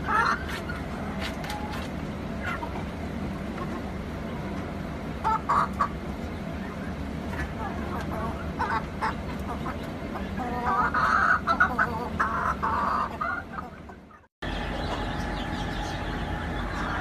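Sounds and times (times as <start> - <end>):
chickens clucking: 0.0 - 17.0
steady background noise: 0.0 - 17.0.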